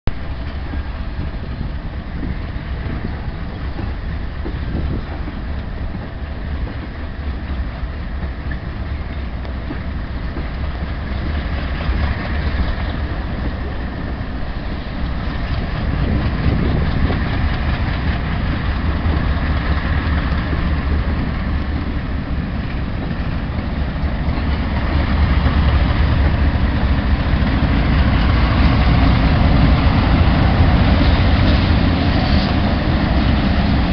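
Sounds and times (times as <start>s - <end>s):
diesel locomotives rumbling: 0.1s - 33.9s.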